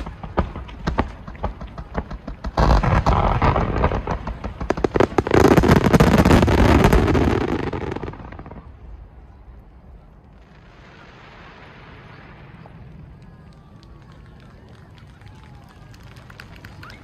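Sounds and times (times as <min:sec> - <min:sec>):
fireworks bursting: 0:00.0 - 0:09.3, 0:10.3 - 0:15.0
fireworks crackling: 0:00.0 - 0:17.0.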